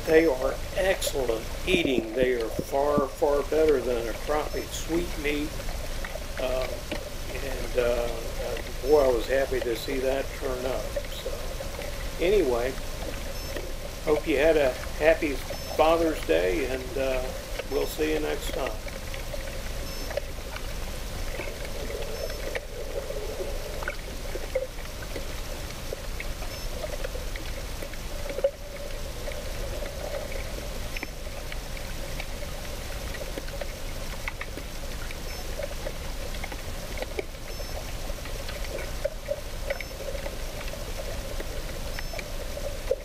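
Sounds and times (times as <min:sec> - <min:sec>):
steady low hum: 0:00.0 - 0:43.0
underwater trickling wash: 0:00.0 - 0:43.0.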